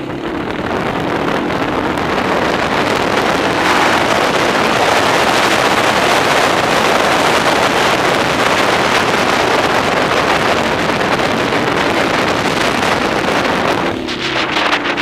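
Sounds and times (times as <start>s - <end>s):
atv engine climbing: 0.0s - 15.0s
wind buffeting microphone: 0.0s - 15.0s.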